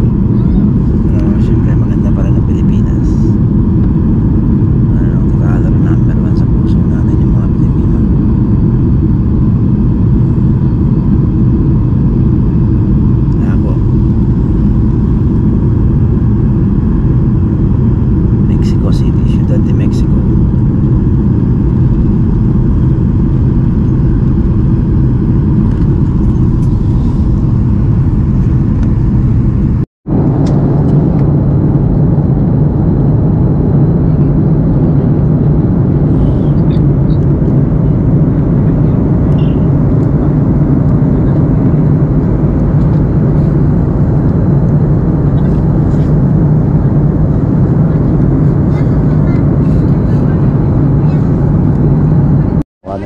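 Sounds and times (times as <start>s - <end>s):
jet airliner cabin rumble: 0.0s - 53.0s.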